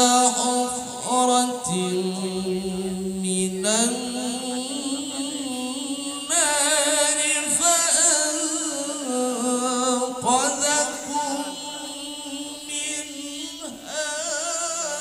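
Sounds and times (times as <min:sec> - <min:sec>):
man chanting through loudspeakers: 0:00.0 - 0:15.0.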